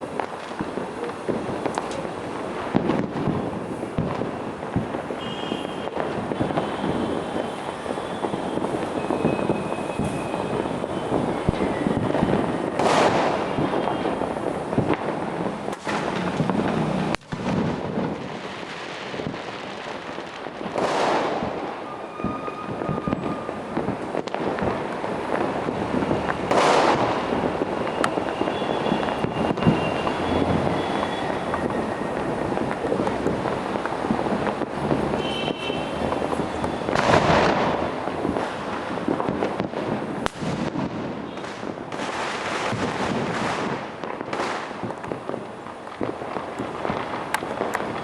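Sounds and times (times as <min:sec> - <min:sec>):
firecrackers crackling: 0:00.0 - 0:48.0
loud firework bursts: 0:00.0 - 0:48.0.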